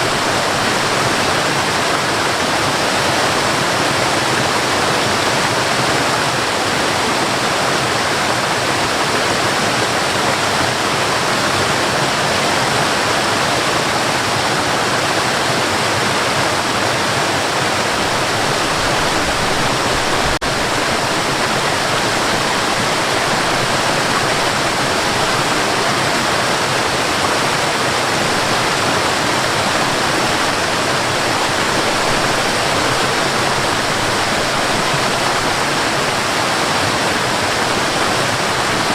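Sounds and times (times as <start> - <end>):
waterfall pouring and splashing: 0.0 - 38.9.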